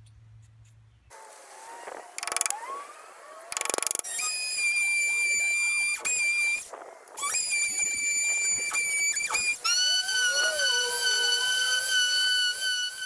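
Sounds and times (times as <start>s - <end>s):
multi-tool high whine cutting wood: 1.1s - 13.0s.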